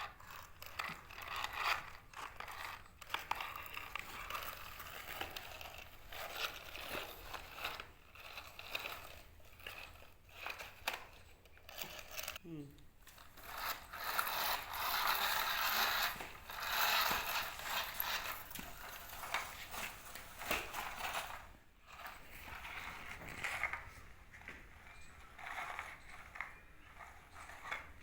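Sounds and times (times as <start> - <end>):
toy plastic gears clicking and grinding: 0.0 - 12.4, 13.0 - 28.0.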